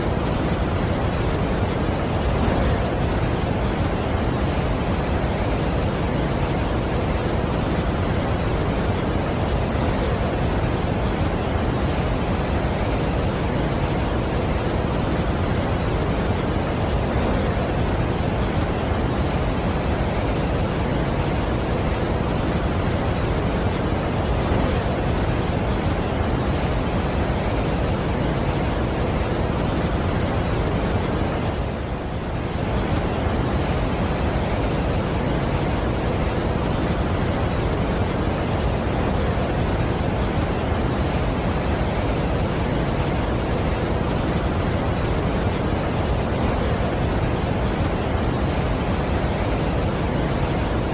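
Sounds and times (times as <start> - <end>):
large waterfall rushing: 0.0 - 50.9.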